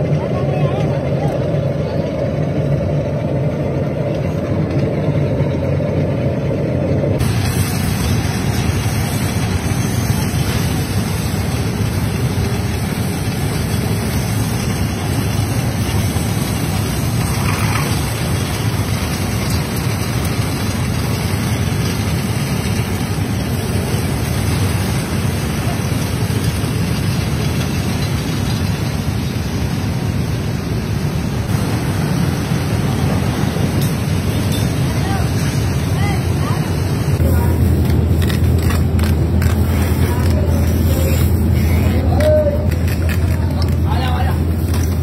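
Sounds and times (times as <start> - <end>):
factory machinery low drone: 0.0 - 45.0.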